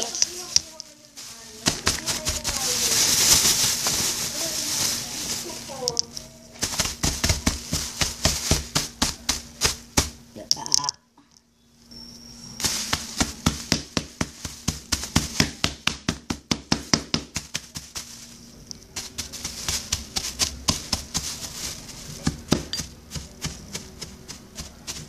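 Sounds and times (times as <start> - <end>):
crackers smashed in plastic bag: 0.0 - 10.2, 12.6 - 24.2.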